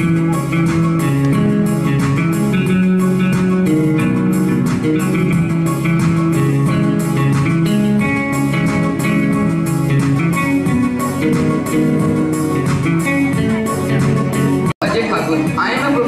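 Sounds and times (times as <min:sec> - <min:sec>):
electronic keyboard melody: 0:00.0 - 0:16.0
steady beat: 0:00.0 - 0:16.0.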